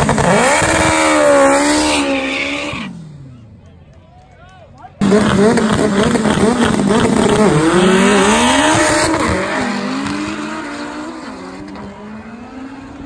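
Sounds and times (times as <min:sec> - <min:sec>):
race car engines revving: 0:00.0 - 0:04.0, 0:04.7 - 0:13.0.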